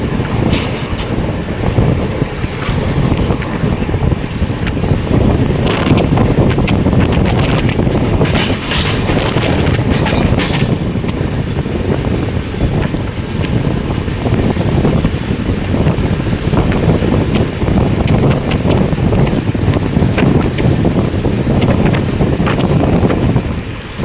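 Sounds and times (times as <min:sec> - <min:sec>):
light clicks and rattles: 0:00.0 - 0:23.4
train carriage rumbling: 0:00.0 - 0:24.0.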